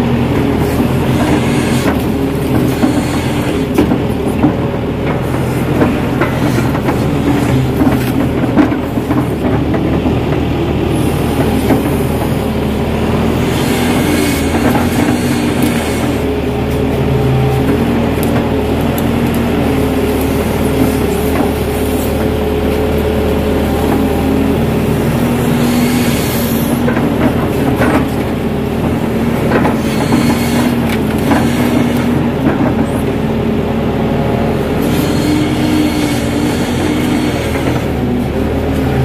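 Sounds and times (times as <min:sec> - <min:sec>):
excavator engine and hydraulics: 0:00.0 - 0:39.0.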